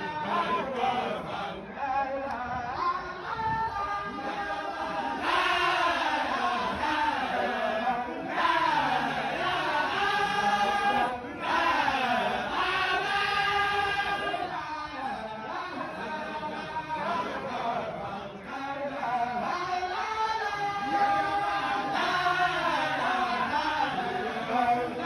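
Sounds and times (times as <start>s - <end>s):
group of voices chanting in unison: 0.0s - 25.0s.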